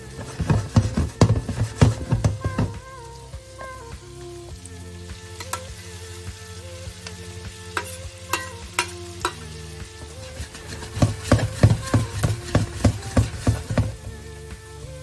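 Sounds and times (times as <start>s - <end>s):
food sizzling in a frying pan: 0.0s - 15.0s
soft background music: 0.0s - 15.0s.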